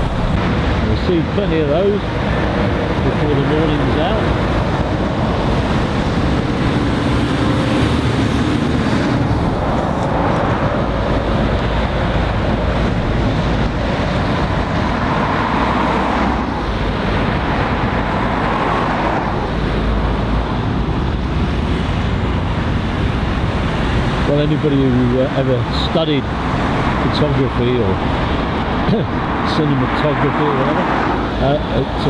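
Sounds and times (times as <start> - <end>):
cars passing with tyre noise: 0.0 - 32.0
steady traffic rumble: 0.0 - 32.0.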